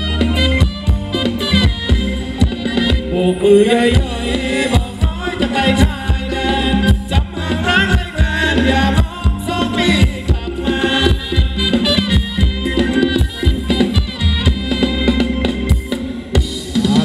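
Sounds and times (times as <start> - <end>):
drum beat: 0.3 - 3.2, 3.9 - 17.0.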